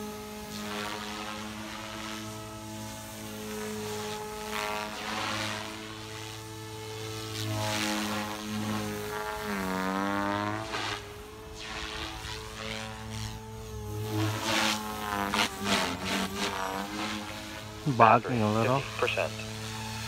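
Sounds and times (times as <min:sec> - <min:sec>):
rc helicopter rotor drone: 0:00.0 - 0:20.0.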